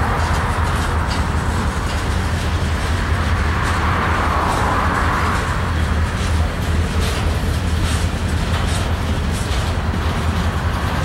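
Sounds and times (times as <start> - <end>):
freight cars rumbling on bridge: 0.0 - 11.0.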